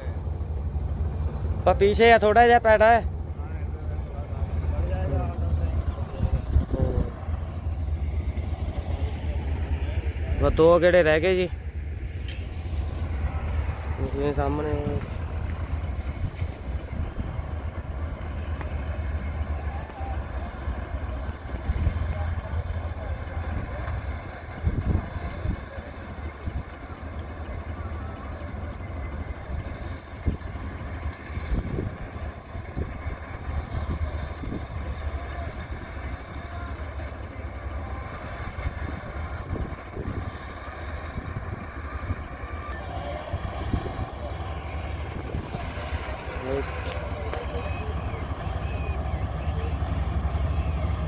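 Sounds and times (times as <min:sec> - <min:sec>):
combine harvester engine rumble: 0:00.0 - 0:51.0.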